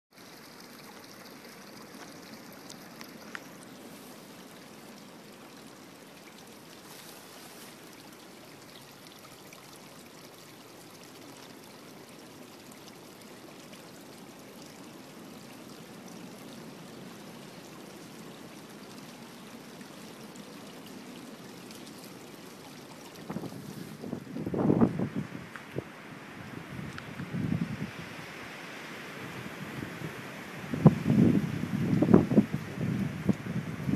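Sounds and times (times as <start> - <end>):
water trickling over rocks: 0.1 - 33.9.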